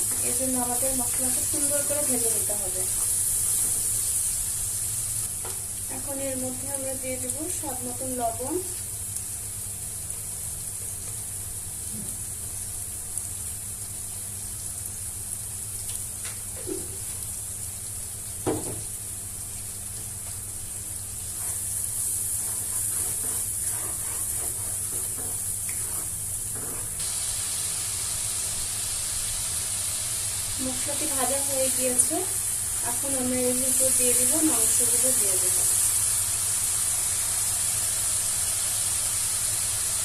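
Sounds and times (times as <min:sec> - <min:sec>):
spice paste sizzling in oil: 0:00.0 - 0:40.0.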